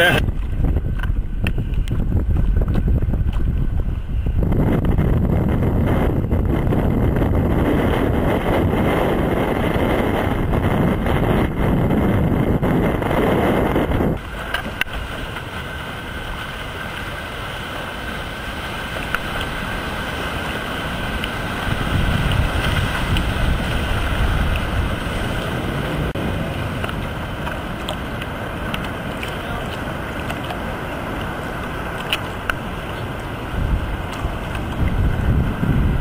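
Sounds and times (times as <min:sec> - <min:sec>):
wind on microphone: 0:00.0 - 0:36.0
surf breaking: 0:04.6 - 0:36.0.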